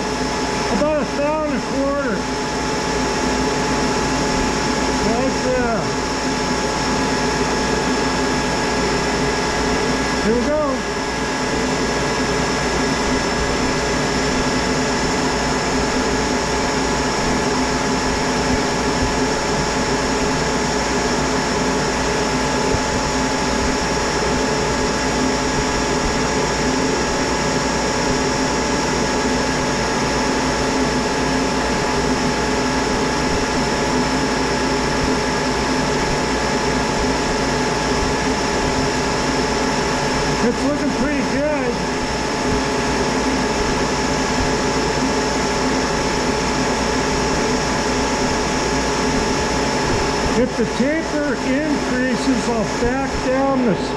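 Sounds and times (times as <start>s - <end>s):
lathe running: 0.0s - 53.9s.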